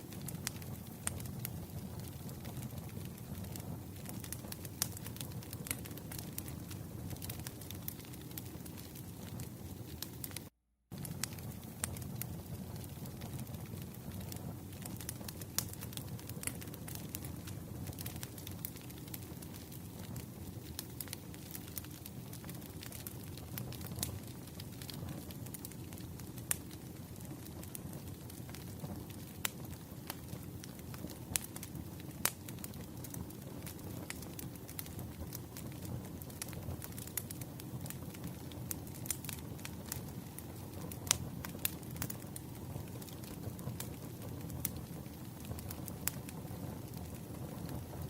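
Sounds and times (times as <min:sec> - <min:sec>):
firewood crackling and popping: 0:00.0 - 0:48.0
low rush of flames: 0:00.0 - 0:48.0.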